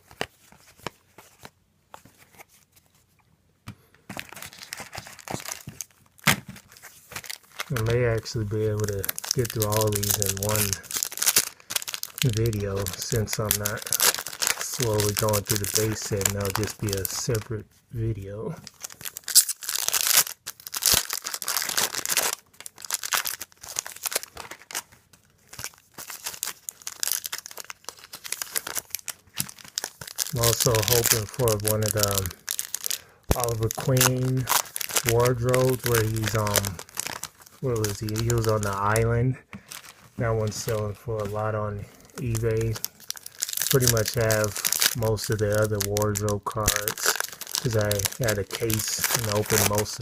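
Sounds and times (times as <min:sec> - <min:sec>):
wrapper tearing and crinkling: 0:04.1 - 0:17.5, 0:18.6 - 0:50.0.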